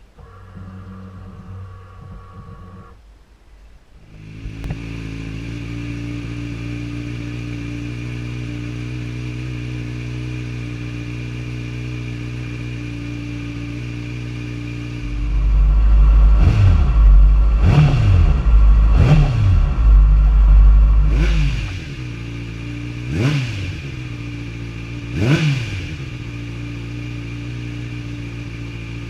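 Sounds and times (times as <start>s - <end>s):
faint steady whir: 0.0s - 29.0s
motorcycle engine idling and revving: 4.0s - 29.0s.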